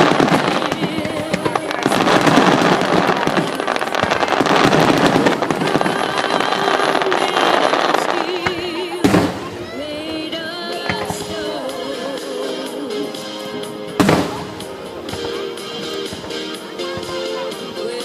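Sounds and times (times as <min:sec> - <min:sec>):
fireworks crackling and popping: 0:00.0 - 0:18.0
music playing: 0:00.0 - 0:18.0.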